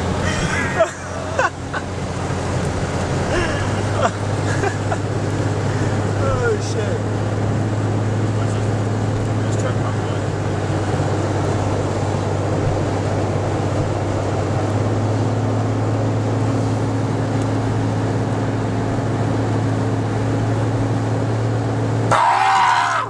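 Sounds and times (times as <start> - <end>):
tyres and rain spray rushing: 0.0 - 20.9
low engine drone: 0.0 - 23.0.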